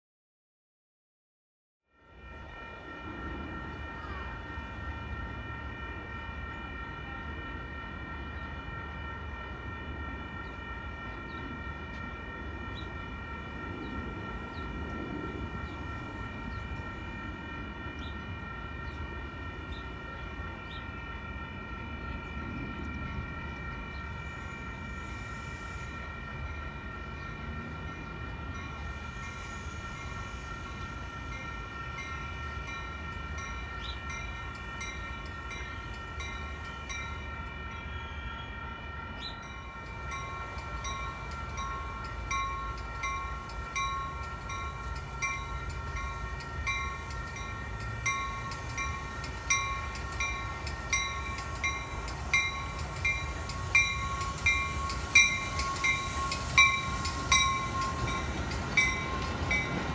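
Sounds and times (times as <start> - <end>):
high train whine: 1.8 - 59.9
distant train rumble: 2.0 - 59.9.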